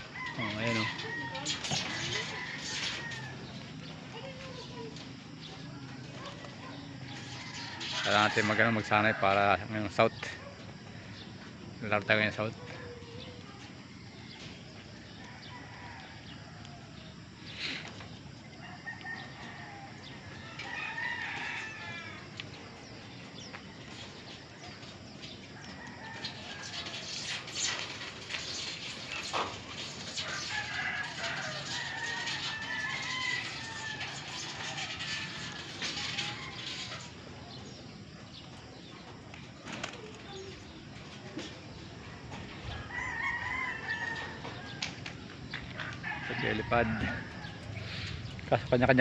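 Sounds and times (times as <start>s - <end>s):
roosters crowing: 0.0s - 10.9s, 14.0s - 49.0s.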